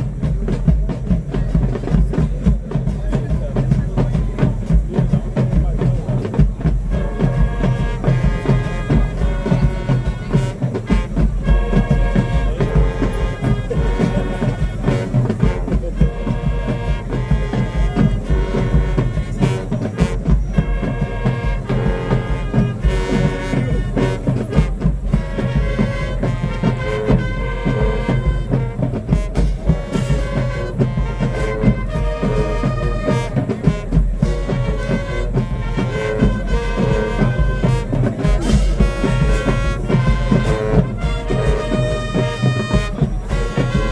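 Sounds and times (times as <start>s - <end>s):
bass drums and drumline beat: 0.0s - 43.9s
brass playing punchy chords: 0.0s - 43.9s.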